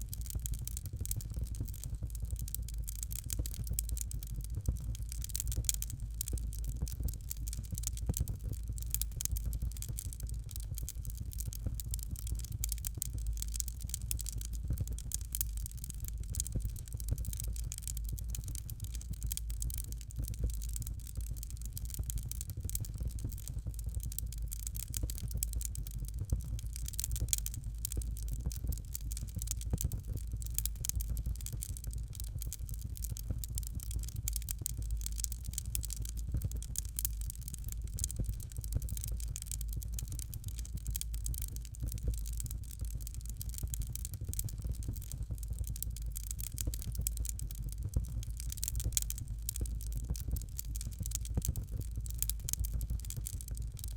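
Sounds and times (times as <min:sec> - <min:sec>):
fire crackling and popping: 0:00.0 - 0:53.9
low rumble of fire: 0:00.0 - 0:53.9.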